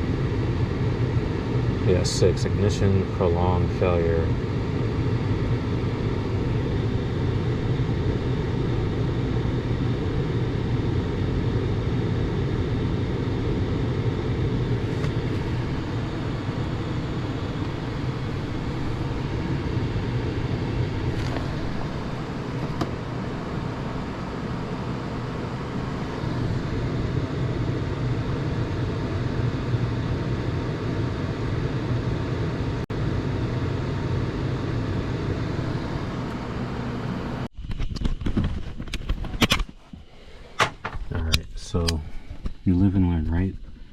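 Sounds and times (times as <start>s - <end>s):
furnace blower low rumble: 0.0s - 37.5s, 40.2s - 43.9s.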